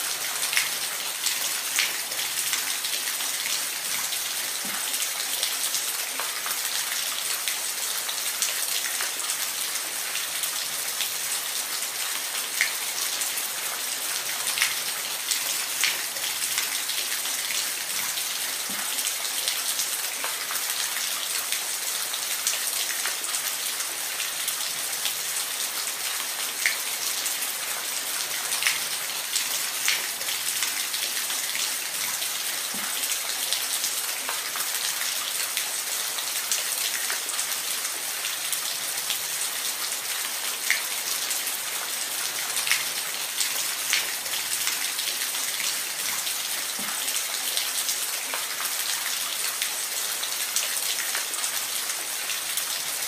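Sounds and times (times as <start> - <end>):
water splashes and drips: 0.0 - 53.0.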